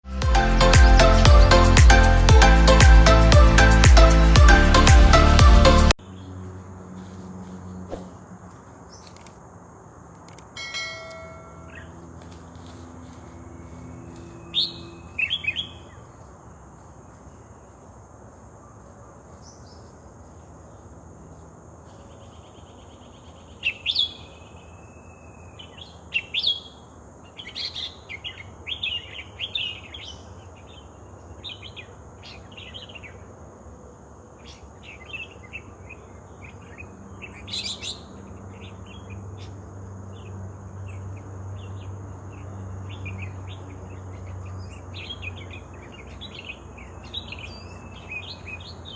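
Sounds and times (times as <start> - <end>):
high insect drone: 6.0 - 48.9.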